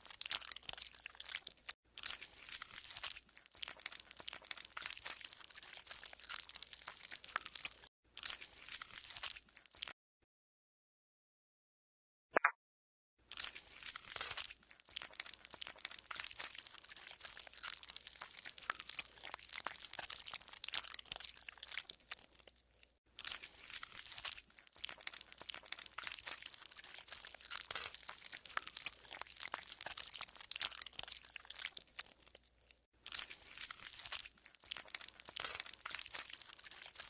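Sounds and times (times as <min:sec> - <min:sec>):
slime squelching and popping: 0:00.0 - 0:09.9, 0:14.7 - 0:22.5, 0:23.2 - 0:37.0.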